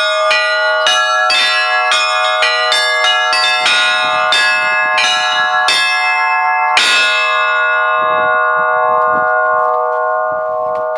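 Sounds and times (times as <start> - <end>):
church bells ringing: 0.0 - 10.9.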